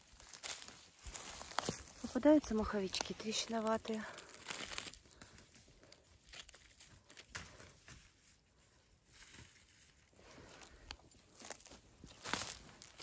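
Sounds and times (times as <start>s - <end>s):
rustling of dry leaf litter: 0.0s - 7.4s, 9.0s - 13.0s.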